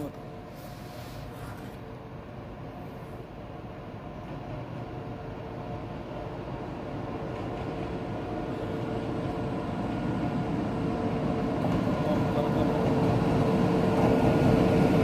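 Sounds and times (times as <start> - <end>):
train rumble and hum: 0.0 - 15.0.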